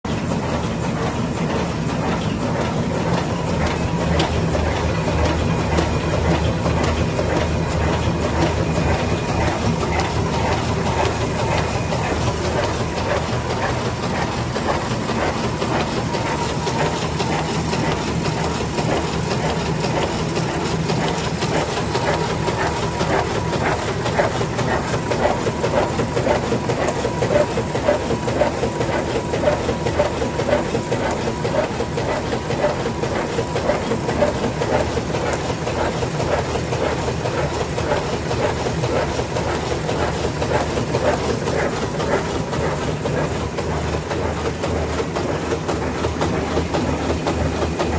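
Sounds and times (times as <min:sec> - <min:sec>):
sewing machine clattering: 0:00.1 - 0:47.9.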